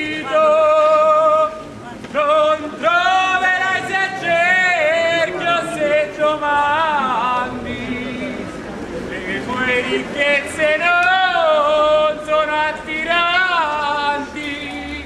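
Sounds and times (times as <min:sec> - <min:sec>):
person singing unaccompanied: 0:00.0 - 0:08.5, 0:09.1 - 0:15.0.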